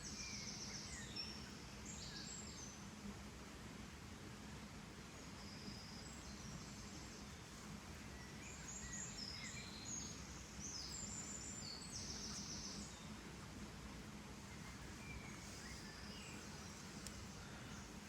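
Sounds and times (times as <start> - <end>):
small birds chirping: 0.0 - 2.9, 5.0 - 13.5, 14.3 - 18.0.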